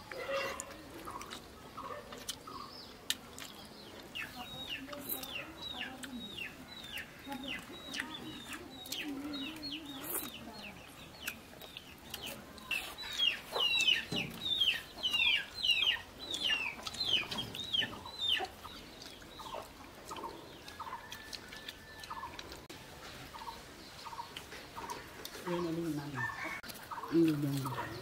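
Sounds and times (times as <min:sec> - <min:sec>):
chickens clucking and calling: 0:00.0 - 0:28.0.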